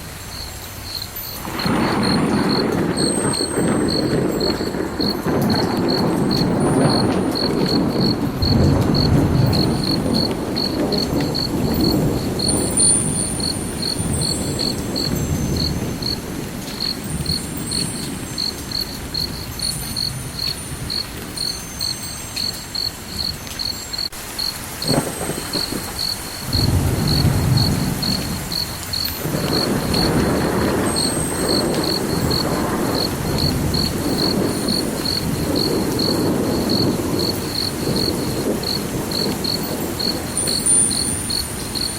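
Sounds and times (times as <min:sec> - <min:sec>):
cricket chirping: 0:00.1 - 0:41.9.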